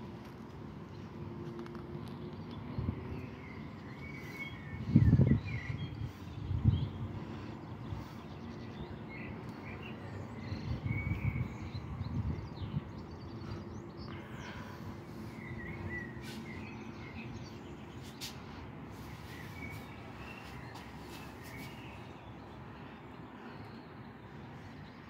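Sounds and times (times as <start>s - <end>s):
small birds chirping: 0.3s - 25.0s
steady low rumble: 4.6s - 25.0s.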